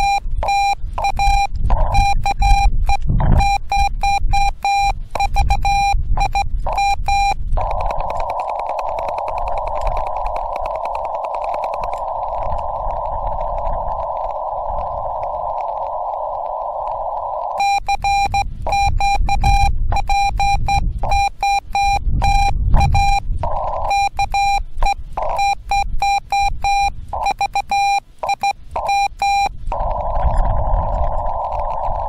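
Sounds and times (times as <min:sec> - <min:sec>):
radio band noise hiss: 0:00.0 - 0:03.8, 0:04.9 - 0:17.6, 0:20.3 - 0:25.7, 0:26.9 - 0:32.0
morse code tone: 0:00.0 - 0:14.1, 0:17.6 - 0:32.0.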